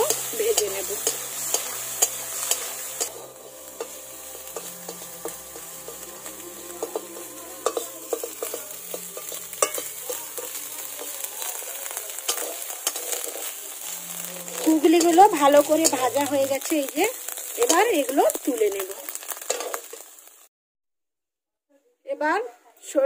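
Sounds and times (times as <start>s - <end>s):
metal spatula scraping a wok: 0.0s - 20.4s
food sizzling in oil: 0.0s - 20.5s.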